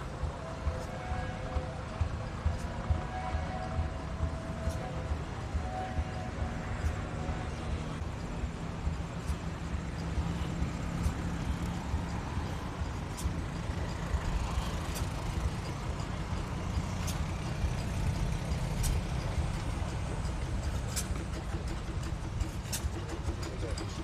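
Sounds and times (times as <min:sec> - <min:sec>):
tractor engine rumbling: 0:00.0 - 0:24.0.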